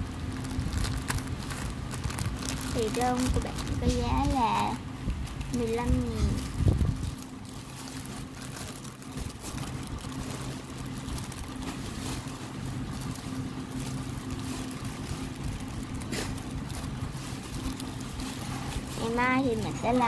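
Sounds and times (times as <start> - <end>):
low mechanical motor hum: 0.0 - 20.0.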